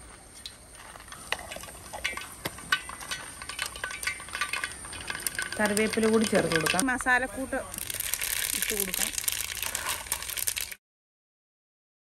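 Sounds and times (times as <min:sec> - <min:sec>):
seeds popping in hot oil: 0:00.0 - 0:10.8.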